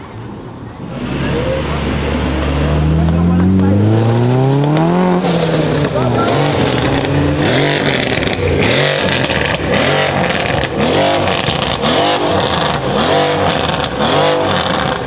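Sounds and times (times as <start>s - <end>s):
car engine revving: 0.8s - 15.0s
exhaust cracks: 0.8s - 15.0s.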